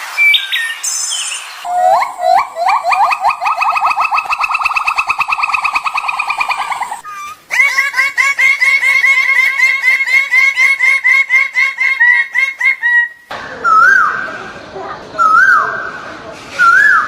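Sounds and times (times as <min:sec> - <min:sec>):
bird calling repeated notes: 0:00.2 - 0:13.9.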